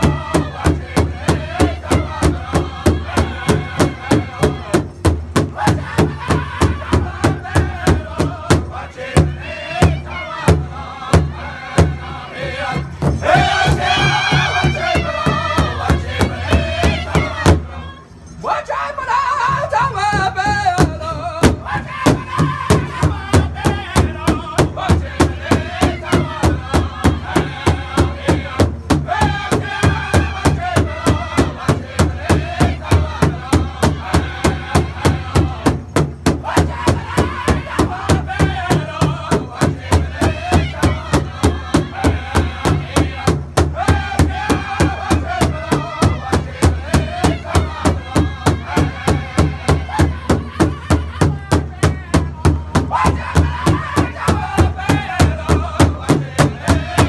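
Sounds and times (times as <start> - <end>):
large drum steady beat: 0.0 - 17.8, 19.5 - 57.0
group singing in high voices: 0.0 - 57.0.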